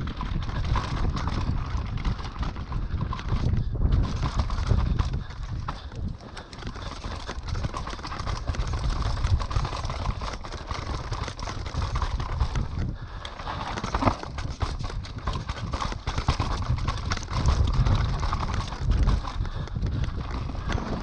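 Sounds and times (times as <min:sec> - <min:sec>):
bike rattling: 0:00.0 - 0:21.0
bike tyres skidding over roots: 0:00.0 - 0:21.0.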